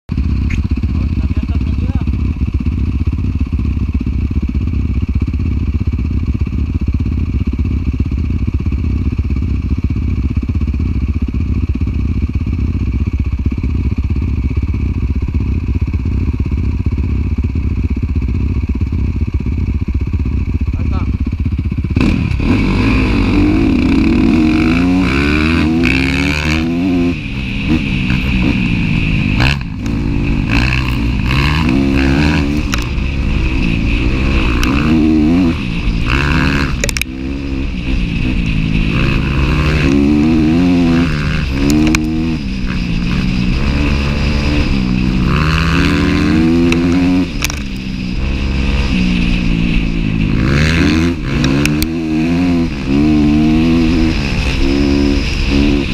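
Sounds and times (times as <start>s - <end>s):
dirt bike engine revving: 0.1s - 55.9s.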